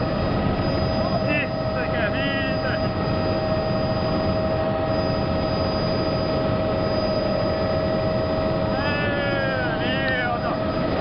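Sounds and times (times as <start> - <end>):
constant whining tone: 0.0 - 11.0
helicopter engine and rotor noise: 0.0 - 11.0.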